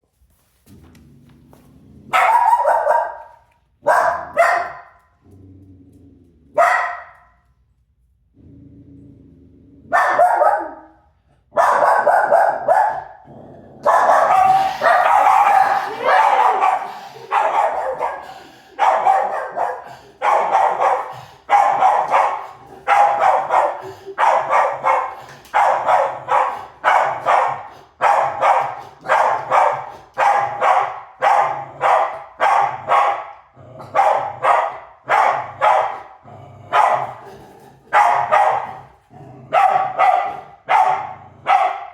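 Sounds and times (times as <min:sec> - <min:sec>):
dog barking: 0:02.1 - 0:05.1, 0:06.5 - 0:07.4, 0:09.9 - 0:13.2, 0:13.8 - 0:41.9.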